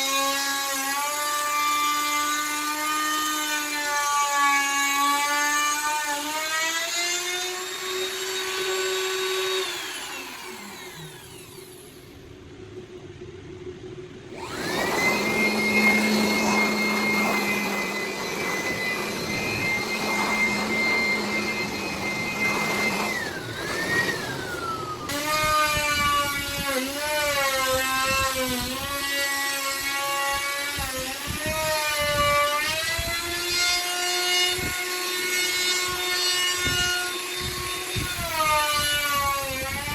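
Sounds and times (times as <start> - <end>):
router bit cutting wood: 0.0 - 12.2, 14.3 - 39.9
wood router motor whine: 0.0 - 12.6, 14.2 - 39.9.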